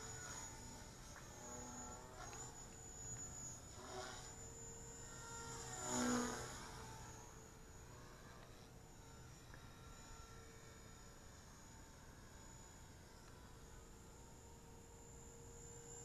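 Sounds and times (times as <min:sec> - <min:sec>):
rc helicopter rotor whine: 0:00.0 - 0:16.0.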